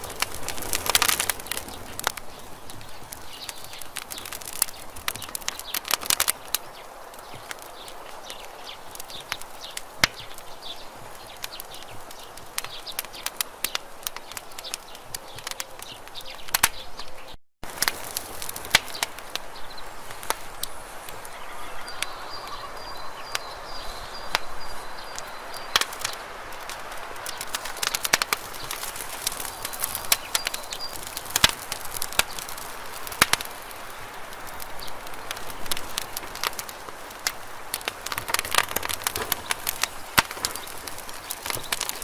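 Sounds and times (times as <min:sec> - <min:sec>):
campfire wood crackling: 0:00.0 - 0:42.0.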